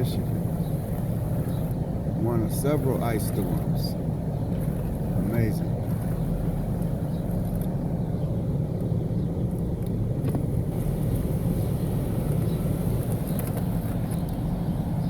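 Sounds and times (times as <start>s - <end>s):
car engine rumbling inside cabin: 0.0s - 15.0s.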